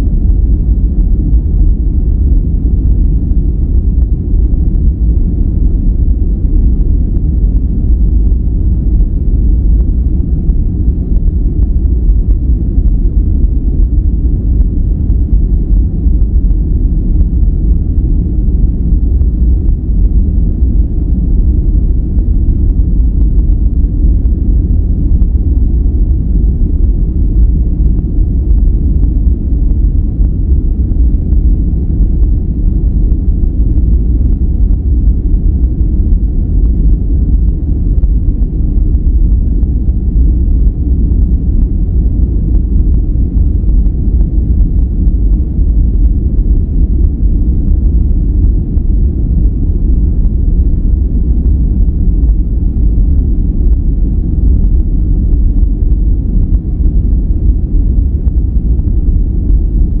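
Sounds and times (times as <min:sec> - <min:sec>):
deep rumbling brown noise: 0:00.0 - 1:00.0.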